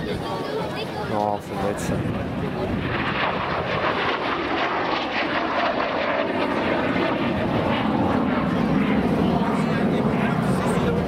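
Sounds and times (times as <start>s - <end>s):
jet flying past: 0.0s - 11.0s.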